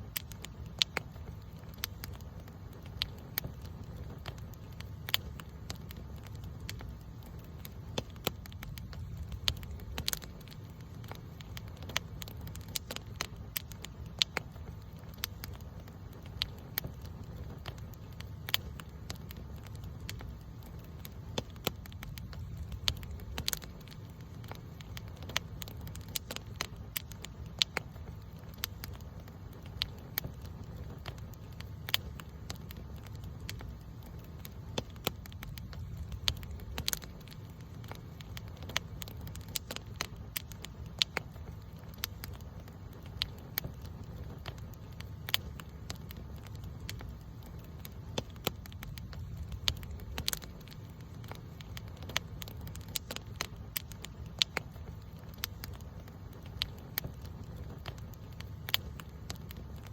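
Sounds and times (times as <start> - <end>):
campfire flames fluttering: 0.0 - 59.9
fire crackling and popping: 0.0 - 59.9.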